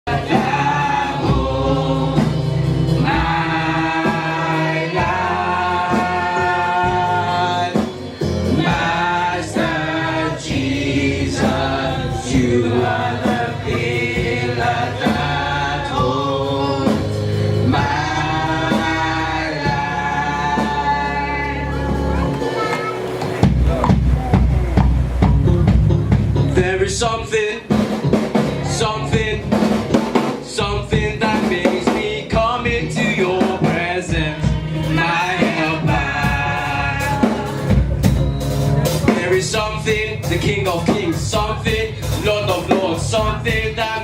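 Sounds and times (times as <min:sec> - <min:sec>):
gospel choir singing: 0:00.0 - 0:25.2, 0:26.5 - 0:44.0
instrumental backing: 0:00.1 - 0:44.0
steady percussive beat: 0:00.1 - 0:44.0.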